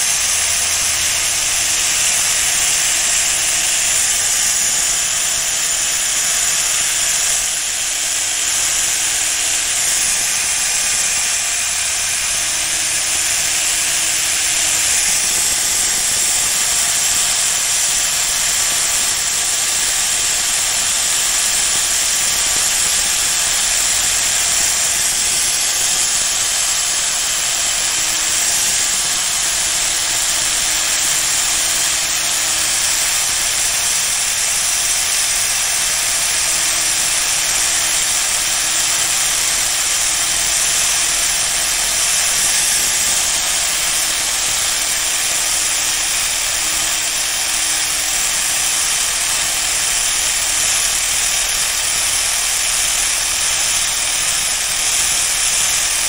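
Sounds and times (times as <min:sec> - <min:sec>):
power tool high-pitched hiss: 0:00.0 - 0:56.0.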